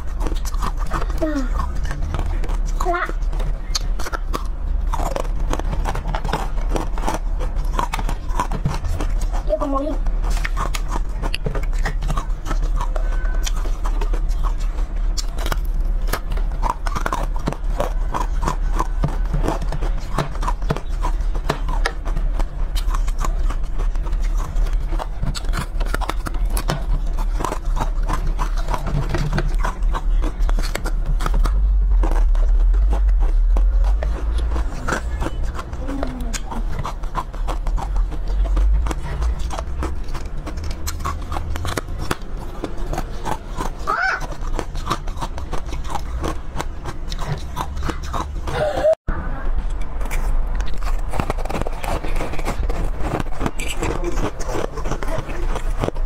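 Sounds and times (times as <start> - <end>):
chewing and crunching chocolate: 0.0 - 49.0, 49.6 - 56.0
steady low rumble: 0.0 - 56.0.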